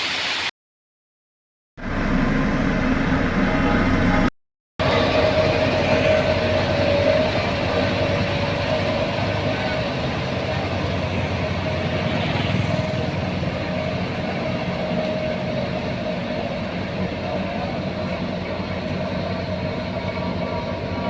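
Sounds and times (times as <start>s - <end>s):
diesel engine drone: 1.8s - 21.0s
mechanical hum and whine: 1.8s - 21.0s.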